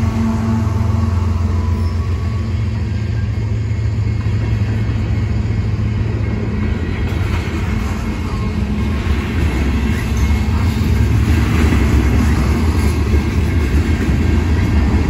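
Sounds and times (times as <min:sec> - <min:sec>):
diesel locomotive engine: 0:00.0 - 0:15.0
freight cars rumbling on rails: 0:00.0 - 0:15.0.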